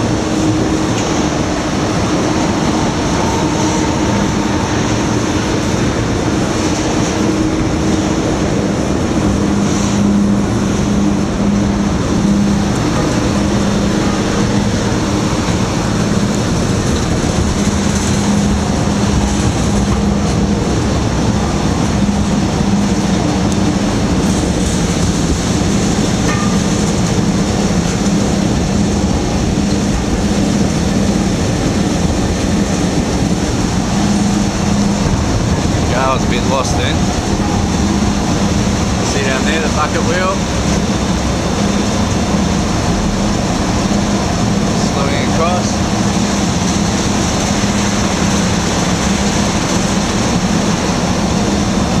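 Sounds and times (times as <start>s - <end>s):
heavy machinery rumbling: 0.0s - 52.0s.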